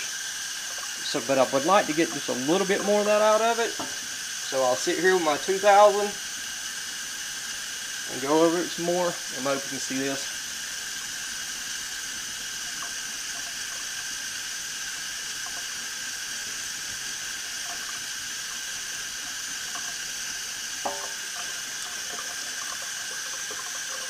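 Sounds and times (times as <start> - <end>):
tap water running into sink: 0.0 - 24.0.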